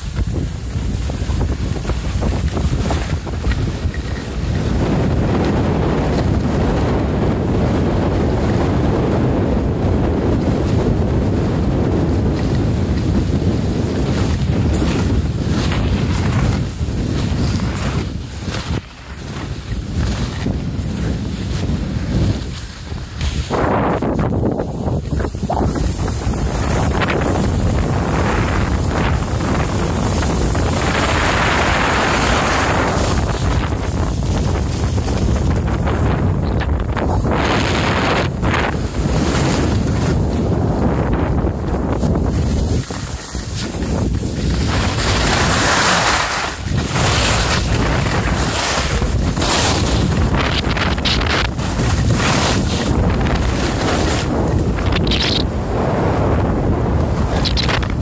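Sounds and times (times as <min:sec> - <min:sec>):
skis sliding on snow: 0:00.0 - 0:58.0
wind rushing over microphone: 0:00.0 - 0:58.0.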